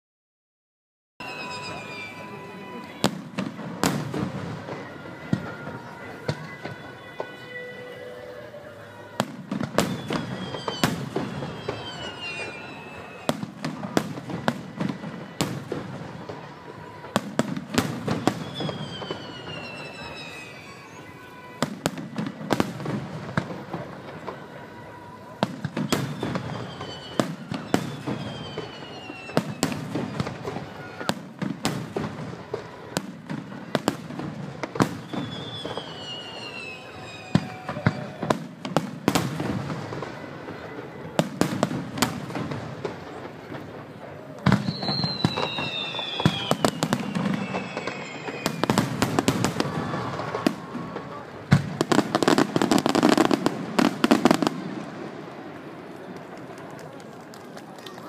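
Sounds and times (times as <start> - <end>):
fireworks bangs and crackles: 1.2 - 58.0
whistling firework shells: 1.2 - 58.0.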